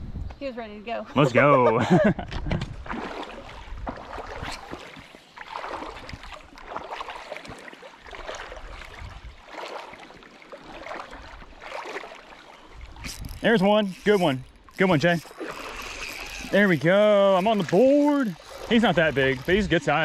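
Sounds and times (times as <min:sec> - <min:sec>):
creek water running and sloshing: 0:01.2 - 0:20.0.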